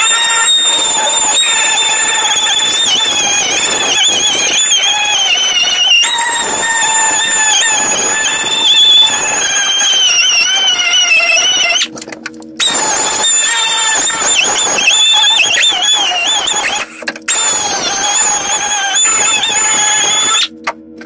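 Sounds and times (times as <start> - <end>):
die grinder grinding metal: 0.0 - 12.0, 12.6 - 20.6.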